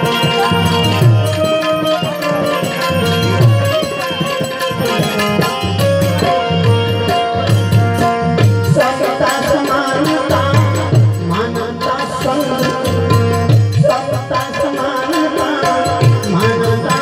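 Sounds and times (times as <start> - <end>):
hand drum beat: 0.0 - 17.0
harmonium playing: 0.0 - 17.0
light percussion: 0.0 - 17.0.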